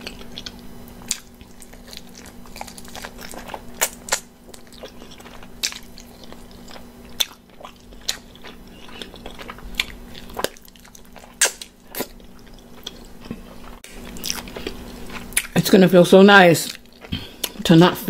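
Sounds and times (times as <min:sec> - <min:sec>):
chewing and biting chicken: 0:00.0 - 0:15.6.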